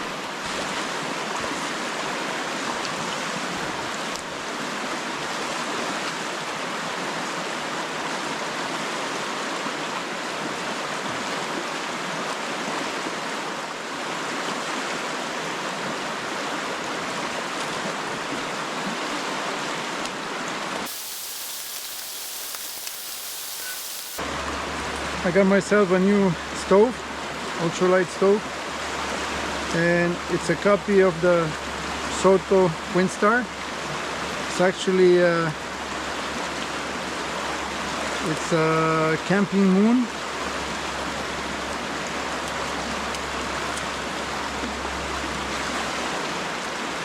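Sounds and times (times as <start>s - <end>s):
river water rushing: 0.0s - 25.2s, 25.9s - 34.6s, 35.6s - 38.4s, 40.1s - 47.0s.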